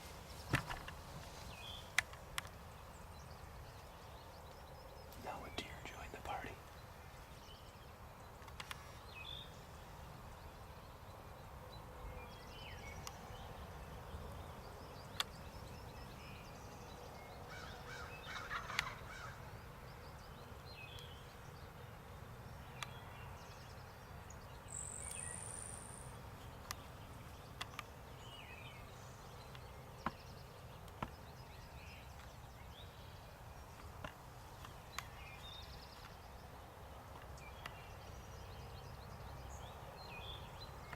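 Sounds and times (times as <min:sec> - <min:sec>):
low outdoor hum: 0:00.0 - 0:40.9.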